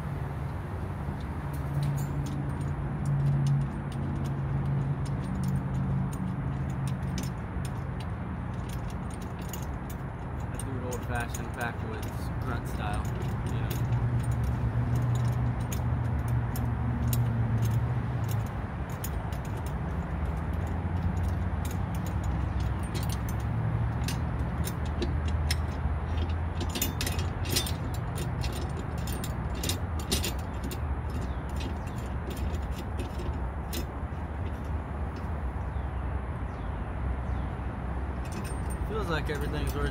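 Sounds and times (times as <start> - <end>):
wrench clinking on metal bolts: 1.2 - 35.4, 38.2 - 39.9.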